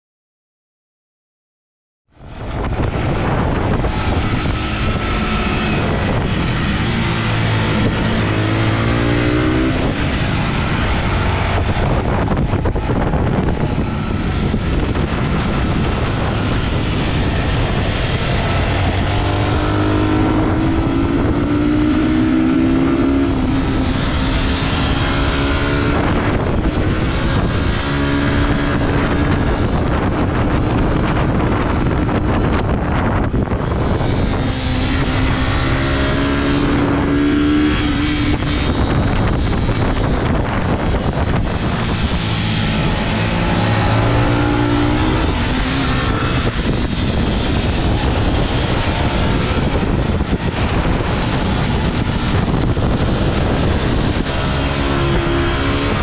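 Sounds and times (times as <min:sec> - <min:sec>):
motorcycle engine accelerating: 0:02.1 - 0:56.0
wind rush on microphone: 0:02.1 - 0:56.0.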